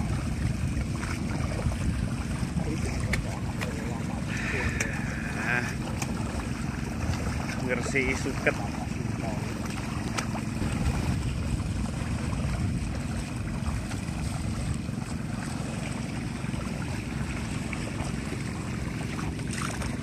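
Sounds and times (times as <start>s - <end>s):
weeders sloshing through mud and water: 0.0s - 20.0s
wind on microphone: 0.0s - 20.0s.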